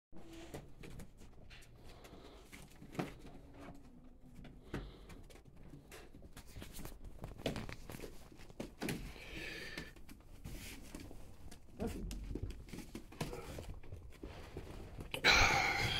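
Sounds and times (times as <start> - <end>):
paws scratching on plastic: 0.3 - 15.1.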